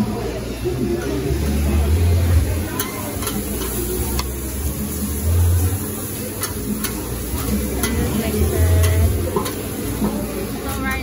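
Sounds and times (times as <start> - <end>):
food sizzling on a griddle: 0.1 - 11.0.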